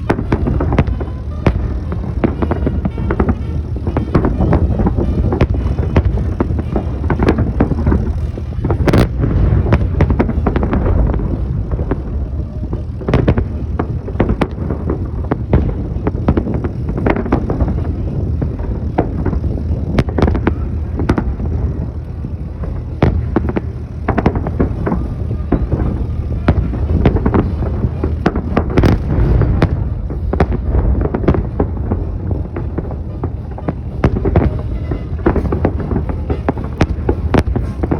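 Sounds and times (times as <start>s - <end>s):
fireworks bangs: 0.0s - 37.9s
low rumble: 0.0s - 37.9s.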